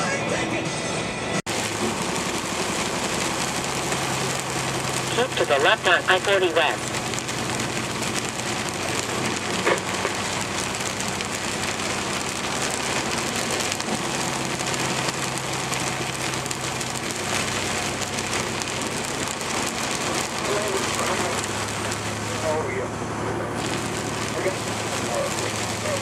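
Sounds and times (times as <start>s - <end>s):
diesel truck engine drone: 0.0s - 26.0s
heavy rain on windshield: 1.5s - 26.0s.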